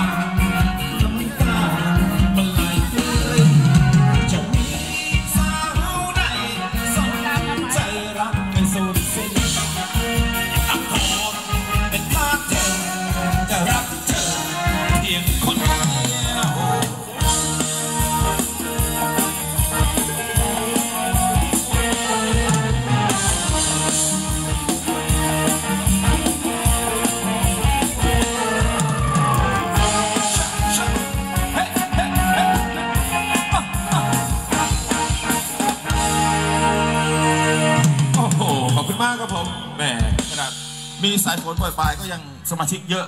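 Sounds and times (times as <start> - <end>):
steady drum beat: 0.0 - 42.3
guitar: 0.0 - 43.0
live band dance music: 0.0 - 43.0.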